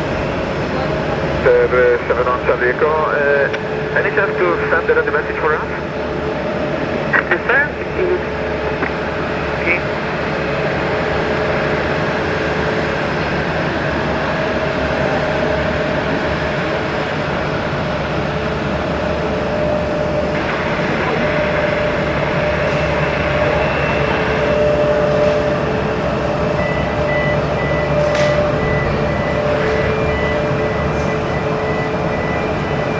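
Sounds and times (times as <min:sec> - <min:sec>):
jet engine rumble: 0:00.0 - 0:32.9.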